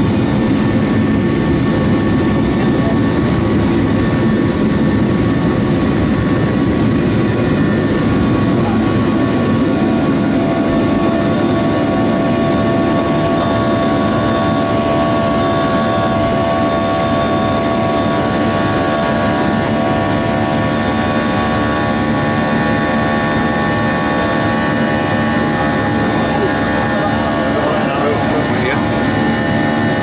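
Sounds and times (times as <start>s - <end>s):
jet engines roaring with whine: 0.0s - 30.0s.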